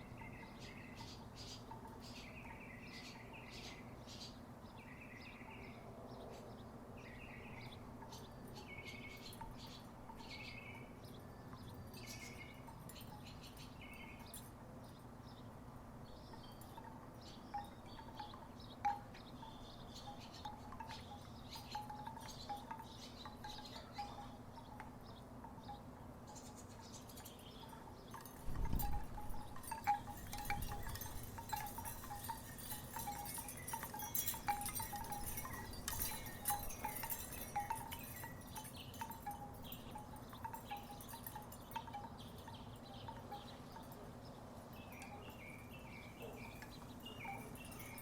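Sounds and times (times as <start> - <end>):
wooden wind chimes clonking: 0.0 - 3.6, 7.1 - 15.2, 16.2 - 48.0.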